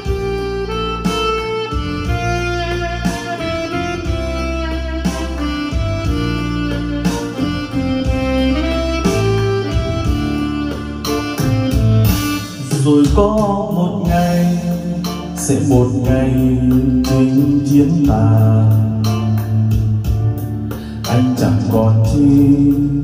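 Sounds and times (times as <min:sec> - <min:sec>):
karaoke backing track music: 0:00.0 - 0:23.0.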